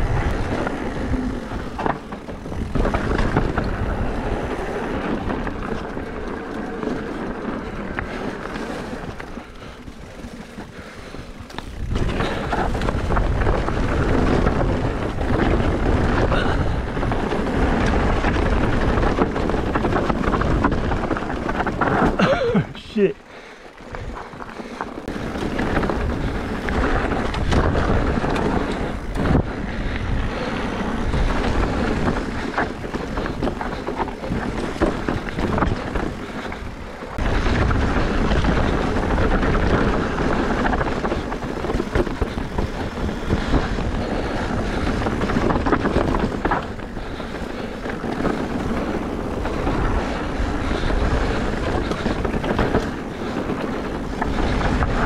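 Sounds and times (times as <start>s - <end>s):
wind rushing over microphone: 0.0s - 22.8s, 23.7s - 55.0s
tyres rolling rumble: 0.0s - 55.0s.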